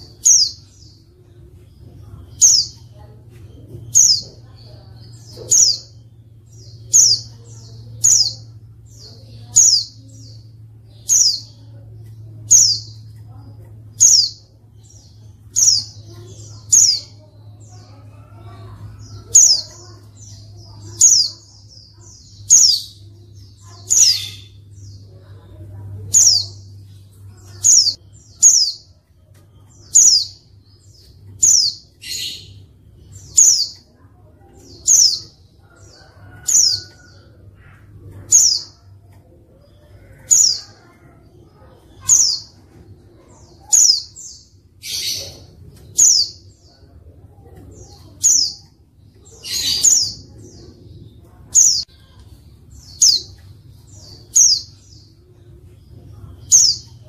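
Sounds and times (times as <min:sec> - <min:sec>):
harsh buzzy bird calls: 0:00.0 - 0:55.5.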